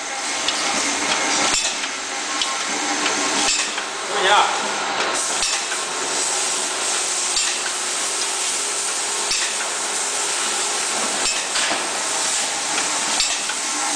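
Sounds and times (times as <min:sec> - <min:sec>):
packing machine hiss: 0:00.1 - 0:13.9.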